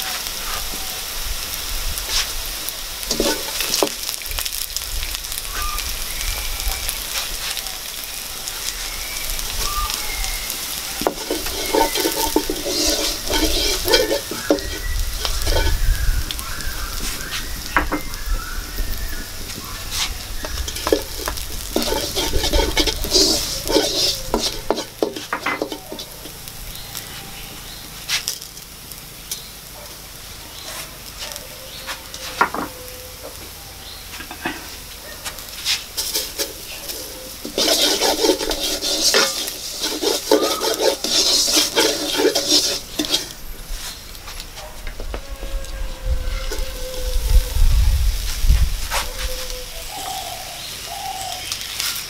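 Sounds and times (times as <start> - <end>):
low sizzle: 0.0 - 52.0
spatula scraping wok: 1.8 - 4.7, 5.3 - 29.5, 34.0 - 51.0.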